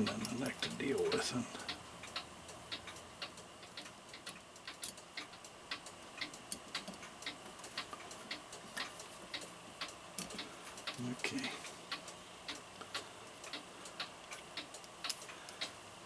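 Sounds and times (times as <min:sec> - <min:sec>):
mechanical clock ticking: 0:00.0 - 0:16.0.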